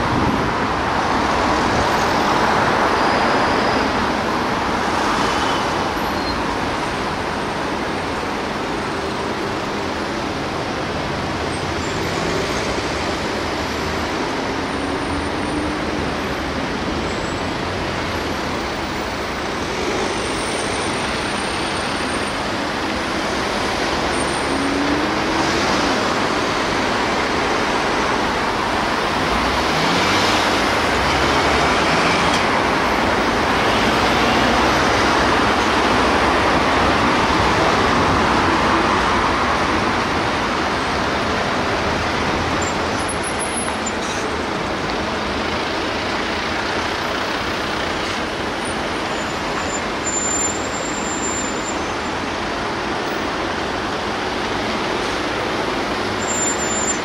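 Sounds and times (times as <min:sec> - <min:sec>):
road traffic noise: 0:00.0 - 0:57.0
vehicles revving: 0:00.0 - 0:57.0.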